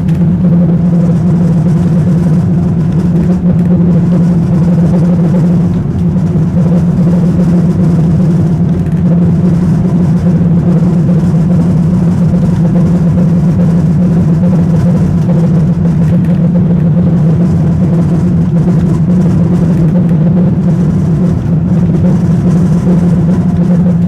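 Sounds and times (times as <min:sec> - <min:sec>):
low drive hum: 0:00.0 - 0:24.0
tram wheels rumbling: 0:00.0 - 0:24.0.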